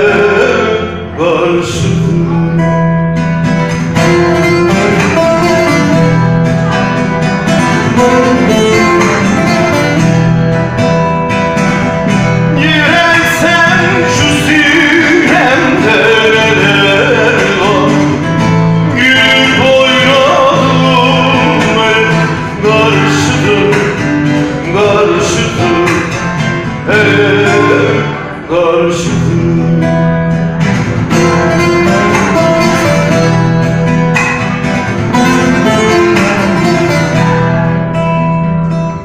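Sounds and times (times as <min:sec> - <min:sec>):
plucked long-necked lute folk tune: 0:00.0 - 0:39.0.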